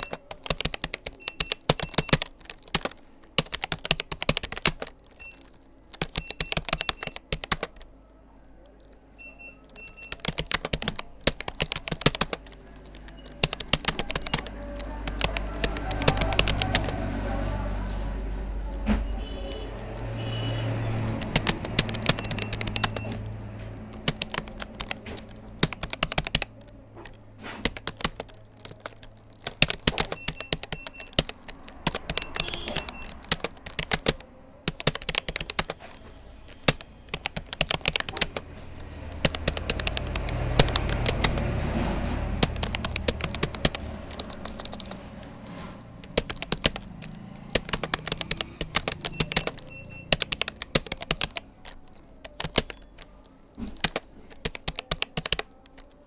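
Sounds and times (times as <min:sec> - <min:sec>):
computer keyboard typing: 0:00.0 - 0:56.0.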